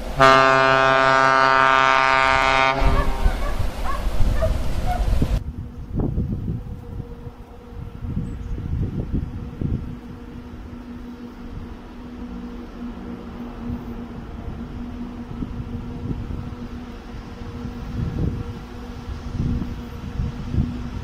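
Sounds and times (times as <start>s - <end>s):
distant diesel locomotive drone: 0.0s - 21.0s
wind rumble on microphone: 0.0s - 21.0s.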